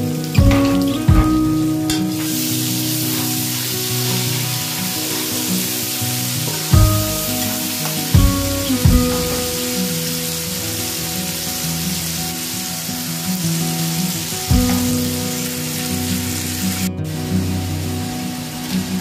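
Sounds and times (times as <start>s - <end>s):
background music with held notes: 0.0s - 19.0s
onions sizzling in hot oil: 0.0s - 19.0s.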